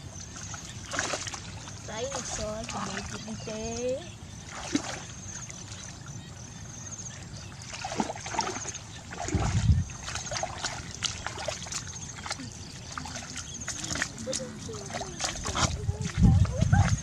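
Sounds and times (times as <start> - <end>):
feet wading through muddy water: 0.0 - 17.0.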